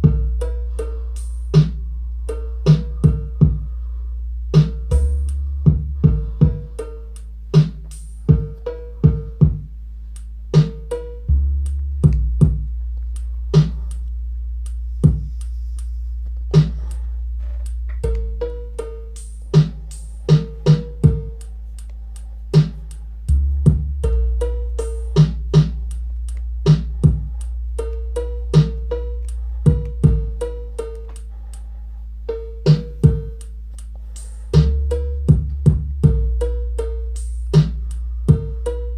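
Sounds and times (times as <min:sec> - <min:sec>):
synthesizer bass: 0:00.0 - 0:38.9.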